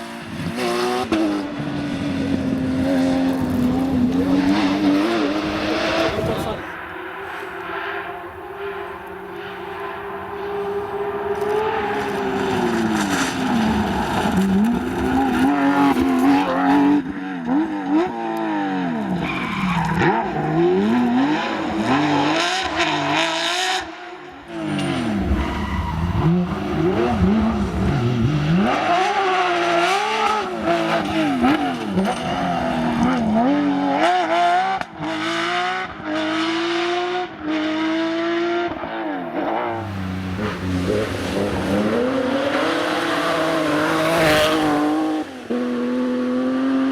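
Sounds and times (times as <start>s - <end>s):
rally car engine revving: 0.0s - 46.9s
tyres skidding: 0.2s - 23.5s, 24.5s - 33.6s, 39.3s - 45.8s.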